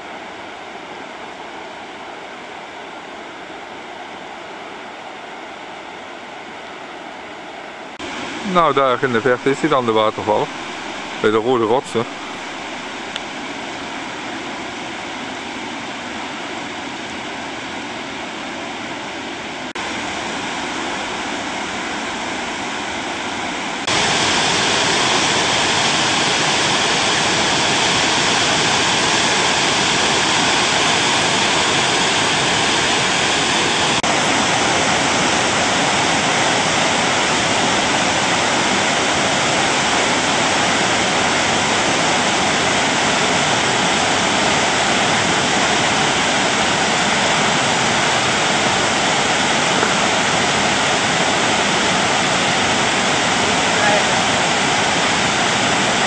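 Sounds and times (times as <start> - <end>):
rushing whitewater: 0.0 - 56.0.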